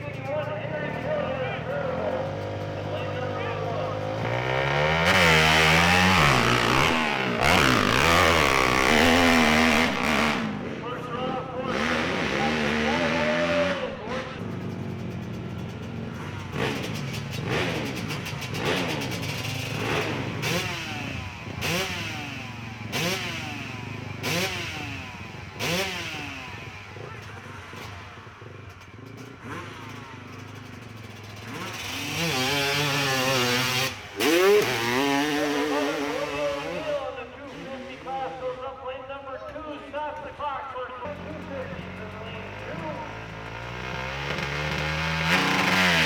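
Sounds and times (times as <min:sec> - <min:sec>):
motorcycle engine revving: 0:00.0 - 0:38.8, 0:41.0 - 0:46.0.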